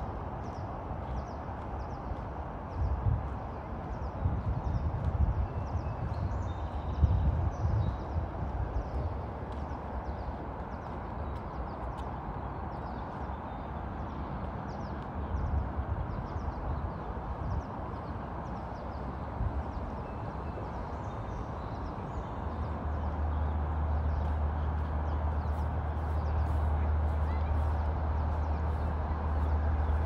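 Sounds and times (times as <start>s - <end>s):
wind rumble on microphone: 0.0s - 30.0s
distant traffic: 5.0s - 30.0s.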